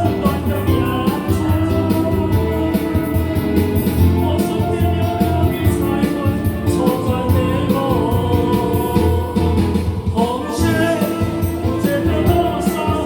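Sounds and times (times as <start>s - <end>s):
instrumental accompaniment: 0.0s - 13.0s
person singing: 0.0s - 13.0s
steady drum beat: 0.0s - 13.0s.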